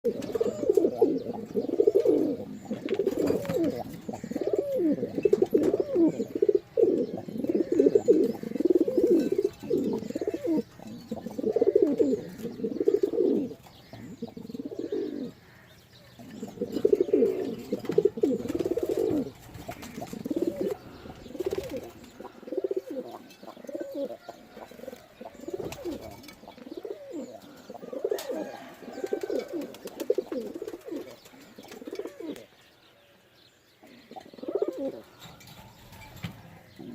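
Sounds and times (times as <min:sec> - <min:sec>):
pigeons cooing: 0:00.0 - 0:32.6, 0:33.7 - 0:36.9.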